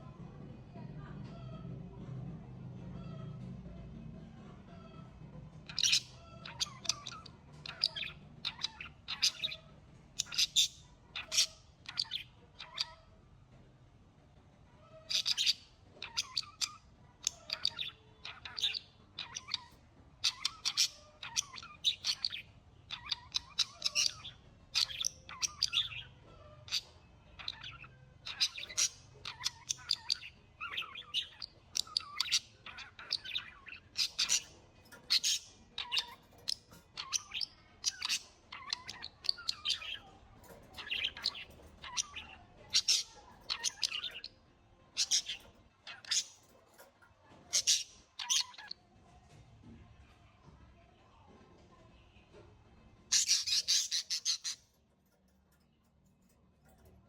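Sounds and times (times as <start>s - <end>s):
birds chirping: 4.7s - 13.2s, 14.8s - 48.9s, 53.0s - 57.0s.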